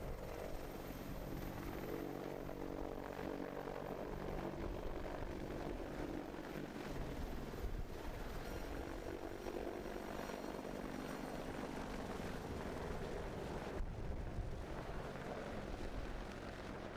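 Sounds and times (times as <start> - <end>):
helicopter engine and rotor drone: 0.0 - 16.9.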